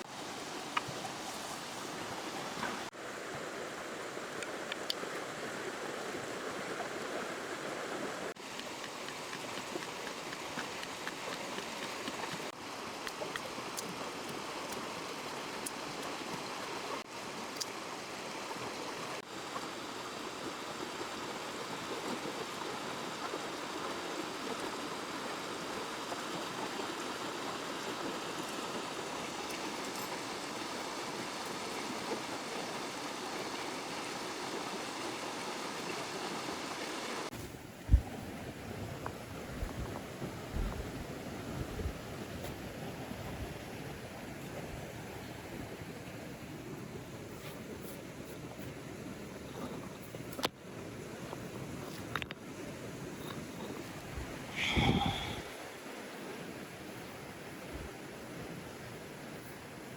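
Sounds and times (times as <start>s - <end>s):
flowing river rushing: 0.0s - 49.8s, 50.6s - 59.9s.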